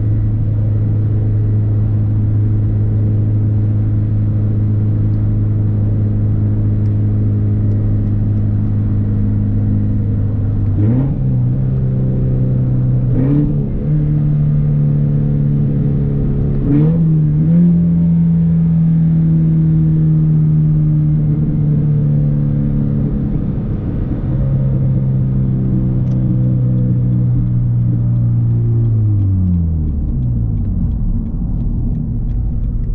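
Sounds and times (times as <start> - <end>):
car engine droning while driving: 0.0 - 32.9.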